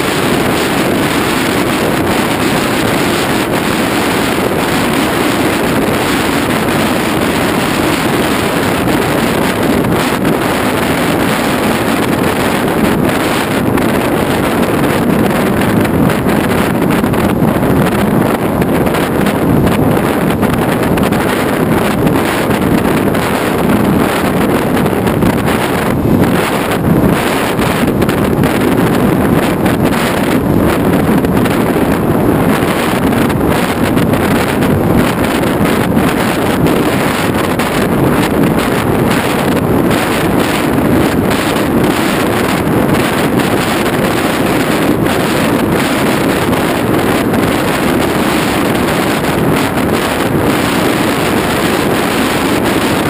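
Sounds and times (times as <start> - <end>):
wind rushing over camera: 0.0 - 53.0.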